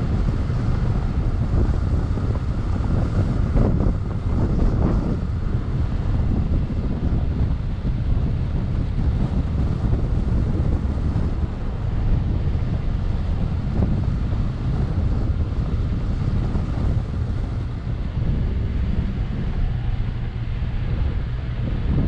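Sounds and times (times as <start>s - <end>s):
car driving on sand: 0.0s - 22.0s
wind buffeting microphone: 0.0s - 22.0s.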